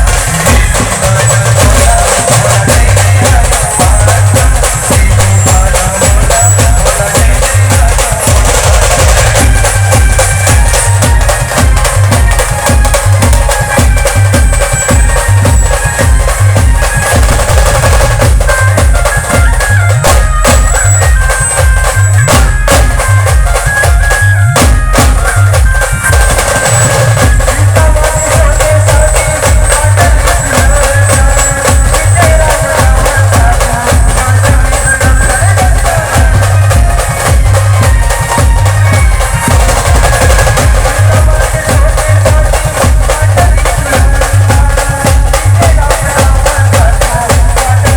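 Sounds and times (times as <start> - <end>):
drums beating fast rhythm: 0.0 - 47.9
loud band music: 0.0 - 47.9.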